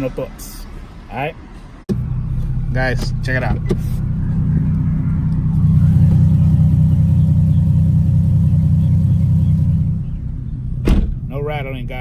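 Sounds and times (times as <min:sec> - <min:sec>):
car exhaust deep drone: 0:01.9 - 0:12.0.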